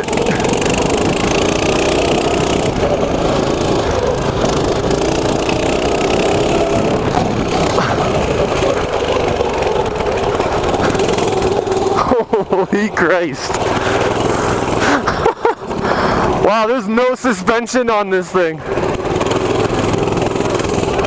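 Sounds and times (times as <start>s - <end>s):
mini bike engine running: 0.0s - 21.0s.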